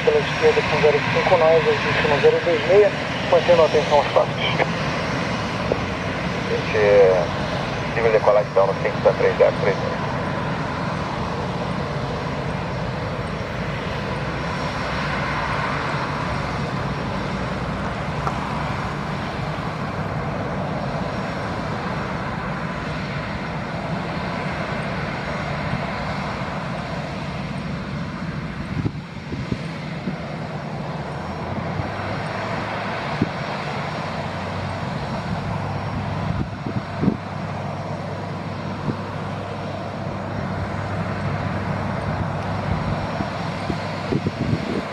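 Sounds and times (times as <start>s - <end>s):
jet engines roaring at takeoff: 0.0s - 44.9s.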